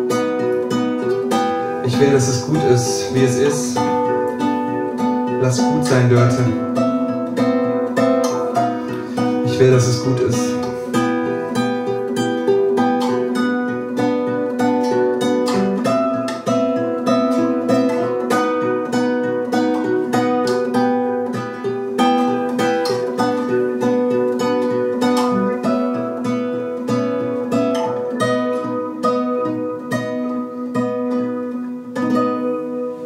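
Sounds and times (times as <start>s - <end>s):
acoustic guitar plucking: 0.0s - 33.0s.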